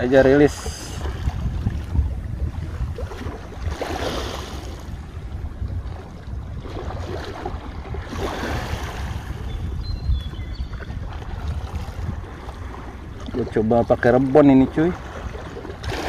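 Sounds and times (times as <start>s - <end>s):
small waves lapping: 0.0s - 16.0s
wind rumbling on microphone: 0.0s - 16.0s.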